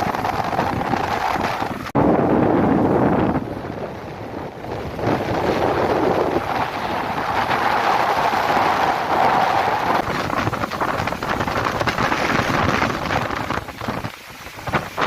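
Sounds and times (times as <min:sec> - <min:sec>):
strong gusty wind buffeting microphone: 0:00.0 - 0:15.0.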